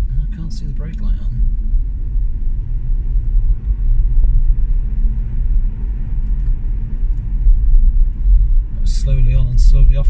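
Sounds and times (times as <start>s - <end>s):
tyre and road noise in car: 0.0s - 10.0s.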